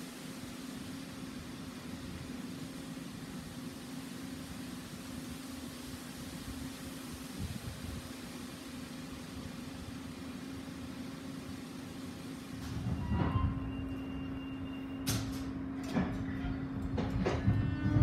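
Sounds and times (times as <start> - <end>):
rumble of tram wheels: 0.0 - 18.0
tram electrical hum: 0.0 - 18.0.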